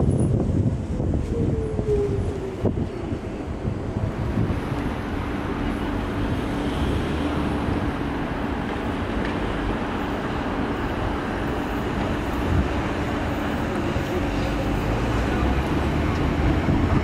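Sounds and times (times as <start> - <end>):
low rumble of traffic: 0.0 - 17.0
rail noise: 0.0 - 17.0.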